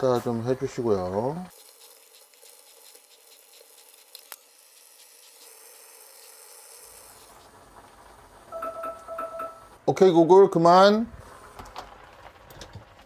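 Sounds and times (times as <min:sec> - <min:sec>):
pot boiling crackling patter: 0:00.0 - 0:13.0.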